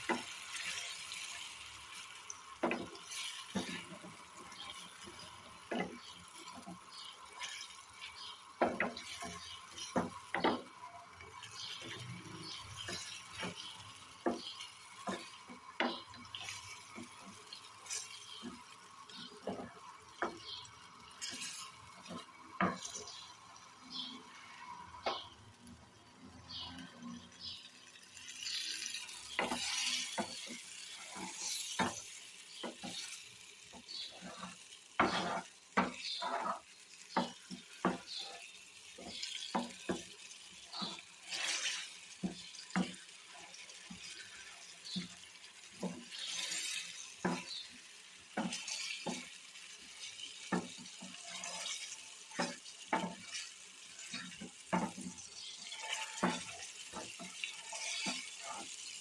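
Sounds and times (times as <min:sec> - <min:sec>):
spoon scraping a metal pan: 0:00.0 - 0:10.7, 0:11.4 - 0:23.2, 0:27.0 - 0:47.6, 0:48.4 - 0:59.0
oil sizzling: 0:00.0 - 0:59.0.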